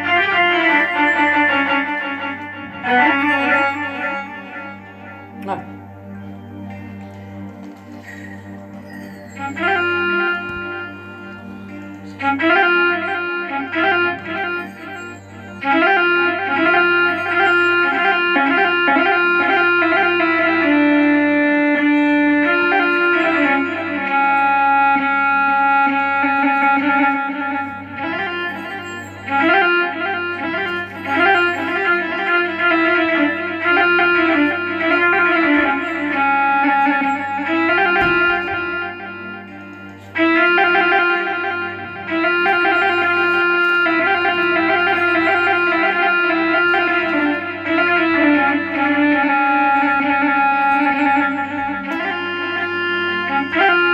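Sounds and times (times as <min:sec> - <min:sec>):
keyboard spike fiddle melody: 0:00.0 - 0:53.9.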